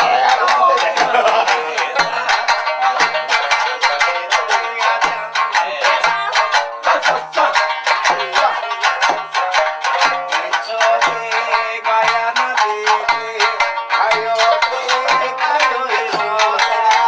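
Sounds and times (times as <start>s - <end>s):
plucked-string melody: 0.0s - 17.0s.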